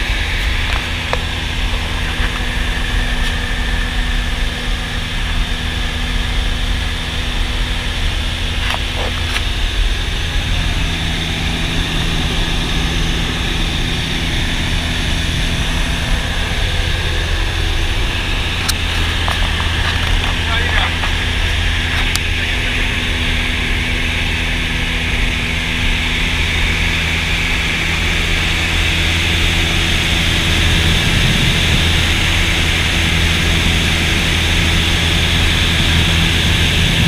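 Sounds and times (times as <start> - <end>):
propeller plane engine droning: 0.0 - 37.0.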